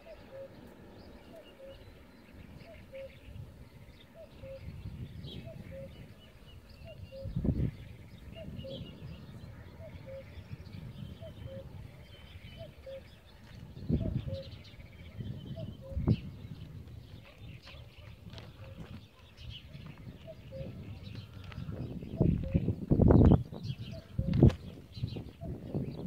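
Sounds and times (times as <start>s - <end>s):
high chirps of small birds: 0.0s - 26.0s
low bird call: 0.0s - 26.0s
wind gusts on microphone: 0.0s - 26.0s.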